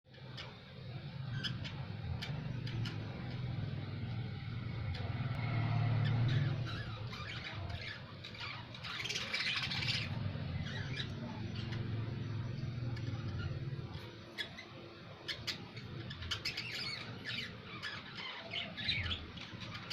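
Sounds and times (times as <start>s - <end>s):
birds chirping and squeaking: 0.1s - 19.9s
steady low hum: 0.1s - 19.9s.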